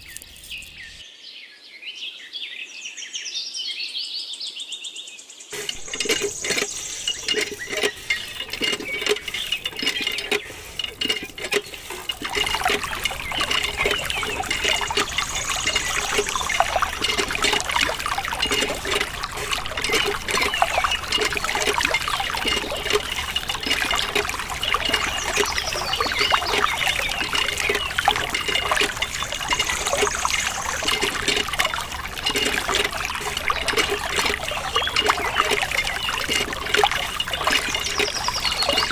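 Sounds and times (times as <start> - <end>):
stream trickling and splashing: 0.0 - 1.0, 5.5 - 38.9.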